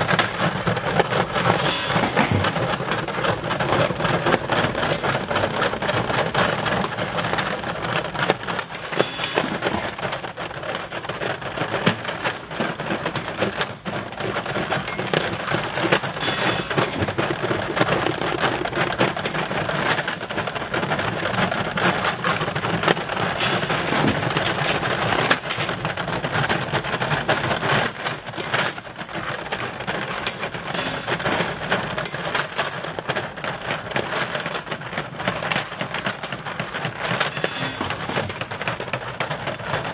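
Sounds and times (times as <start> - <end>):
metal parts clattering on conveyor: 0.0 - 39.9.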